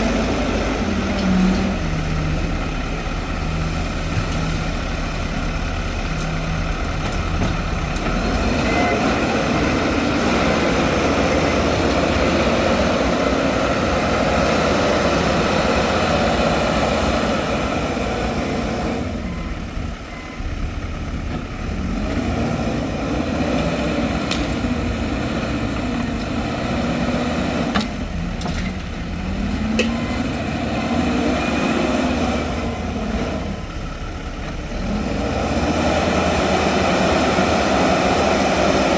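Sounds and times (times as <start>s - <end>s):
heavy machinery diesel engines revving: 0.0s - 38.9s.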